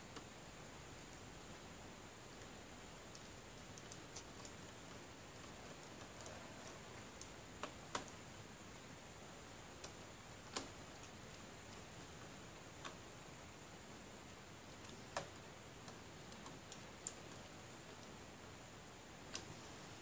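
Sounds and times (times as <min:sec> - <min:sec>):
faint room hiss: 0:00.0 - 0:20.0.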